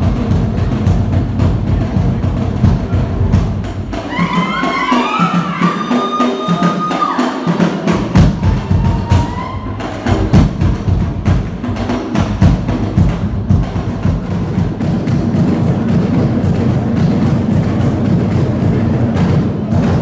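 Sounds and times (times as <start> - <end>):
deep drum beats: 0.0 - 20.0
rapid wooden drum strokes: 0.0 - 20.0.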